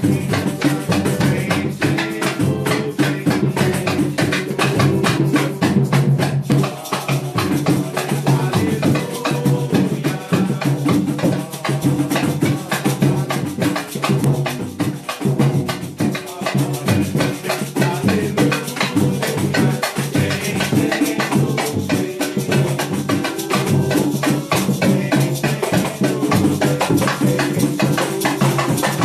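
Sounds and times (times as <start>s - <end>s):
fast drum beat: 0.0s - 29.0s
hymn music: 0.0s - 29.0s
shaker rattle: 0.0s - 29.0s.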